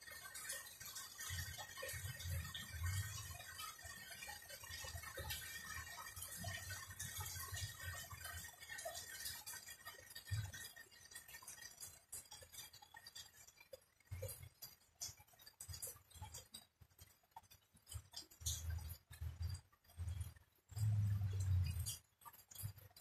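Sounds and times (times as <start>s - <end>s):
rainwater dripping: 0.0s - 23.0s.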